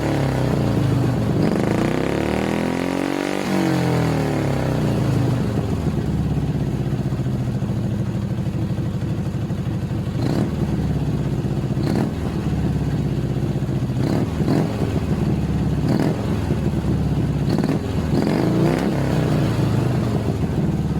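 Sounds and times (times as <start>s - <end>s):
motorcycle engine idling: 0.0s - 2.2s, 4.0s - 20.9s.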